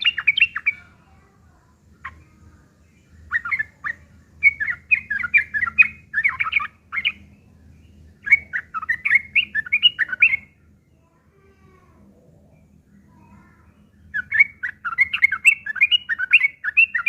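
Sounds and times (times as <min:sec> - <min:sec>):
bulbul chattering song: 0:00.0 - 0:11.4, 0:12.3 - 0:17.0.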